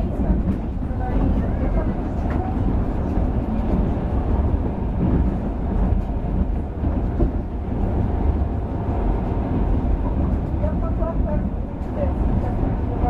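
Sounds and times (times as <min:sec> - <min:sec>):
train rumbling from inside carriage: 0:00.0 - 0:13.0.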